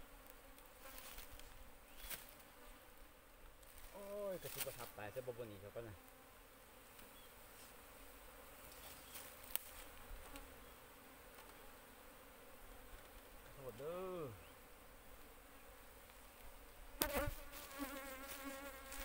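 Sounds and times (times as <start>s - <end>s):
bees buzzing faintly: 0.0s - 19.0s.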